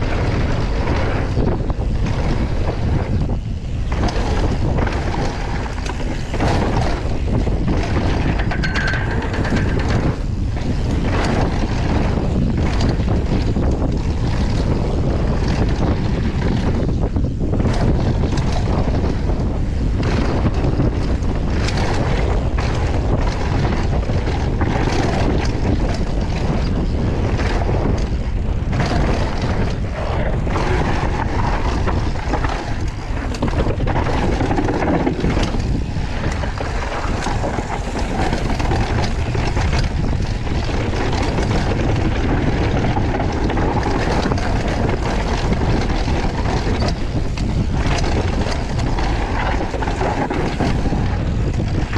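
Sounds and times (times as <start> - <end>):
bike knocks and rattles: 0.0 - 51.9
tyres rumbling on dirt and rock: 0.0 - 51.9
wind buffeting microphone: 0.0 - 51.9.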